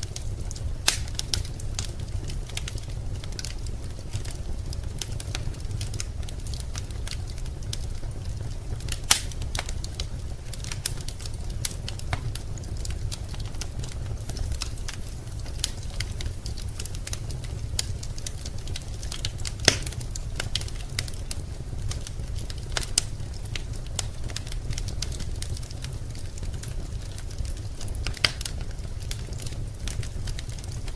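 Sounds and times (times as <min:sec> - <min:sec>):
low steady rumble: 0:00.0 - 0:30.9
wood fire crackling and popping: 0:00.0 - 0:30.9.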